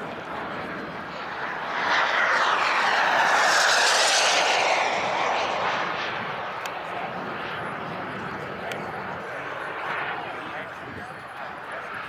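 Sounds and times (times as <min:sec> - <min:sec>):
model jet turbine flying past: 0:00.0 - 0:12.0.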